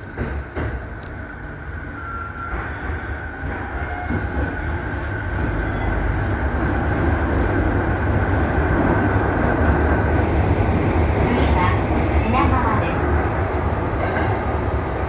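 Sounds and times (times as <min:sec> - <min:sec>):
rail joint clicks: 0:00.0 - 0:13.0
train wheel and rail rumble: 0:00.0 - 0:15.0.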